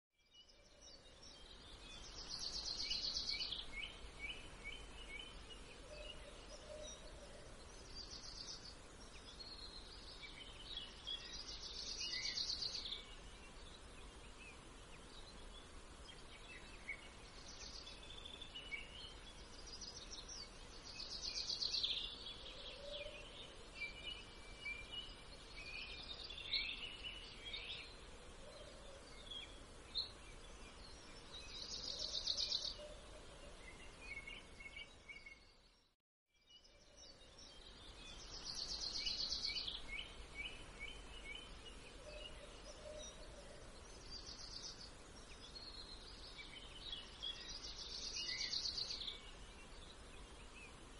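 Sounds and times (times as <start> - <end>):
songbirds chirping and trilling: 0.2 - 50.9
steady background hiss: 0.3 - 35.6, 36.5 - 50.9.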